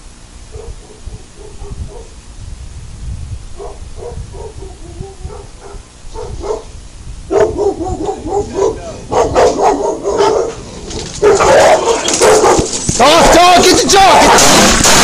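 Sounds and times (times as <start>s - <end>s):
dogs barking: 0.5s - 2.2s, 3.6s - 14.6s.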